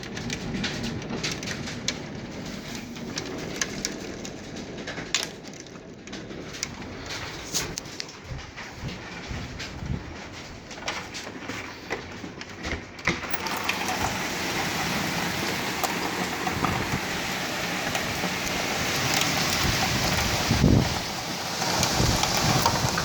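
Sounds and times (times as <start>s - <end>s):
hail and rain hitting a surface: 0.0s - 23.0s.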